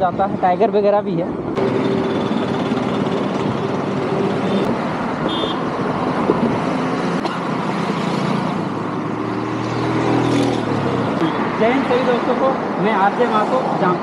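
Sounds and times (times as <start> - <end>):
vehicle passing close by: 1.6 - 14.0.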